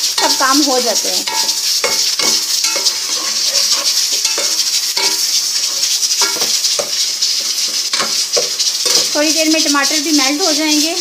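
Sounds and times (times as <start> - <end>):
pressure cooker hissing: 0.0 - 11.0
spatula scraping a pot: 0.0 - 11.0.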